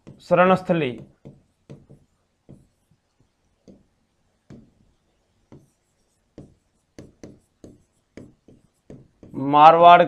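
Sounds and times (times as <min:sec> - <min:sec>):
marker writing on whiteboard: 0:00.0 - 0:09.8.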